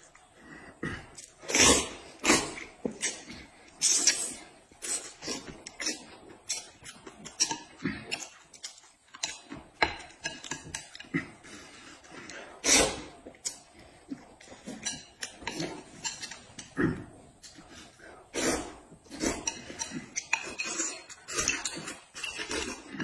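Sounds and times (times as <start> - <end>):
person eating noodles: 0.1 - 23.0.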